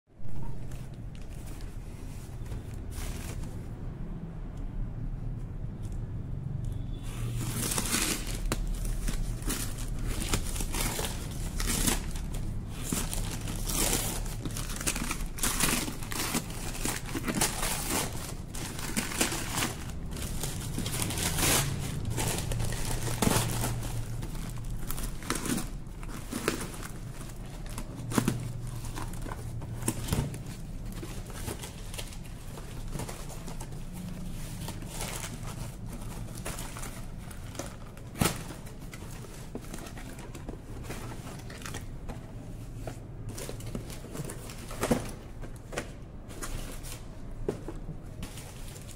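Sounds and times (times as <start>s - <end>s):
paper ripping and rustling: 7.2s - 47.4s.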